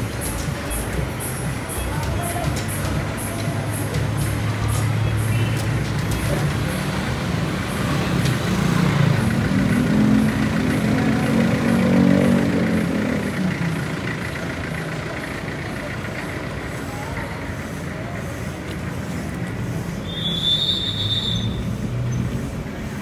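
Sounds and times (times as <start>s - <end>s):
vehicle engine passing: 0.0s - 20.1s
street traffic noise: 0.0s - 23.0s.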